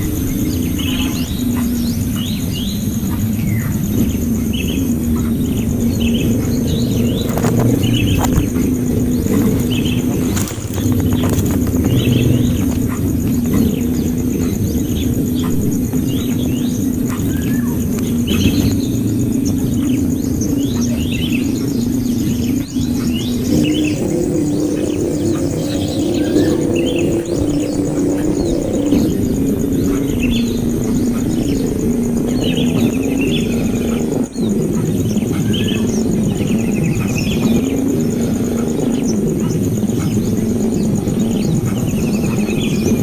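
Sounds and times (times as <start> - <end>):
birds chirping: 0.0 - 43.0
high insect-like buzz: 0.0 - 43.0
low droning hum: 0.0 - 43.0
low rumble: 0.0 - 43.0.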